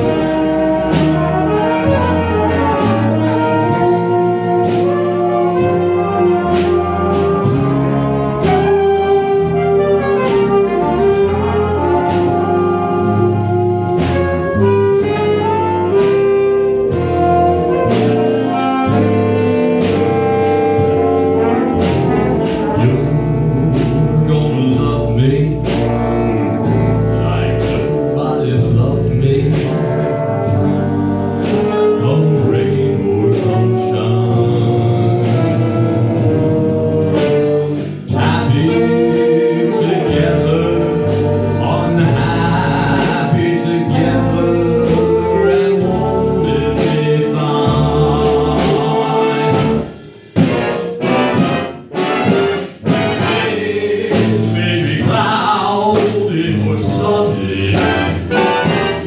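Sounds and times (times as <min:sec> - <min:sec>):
big band playing swing: 0:00.0 - 0:59.0
brass section playing: 0:00.0 - 0:59.0.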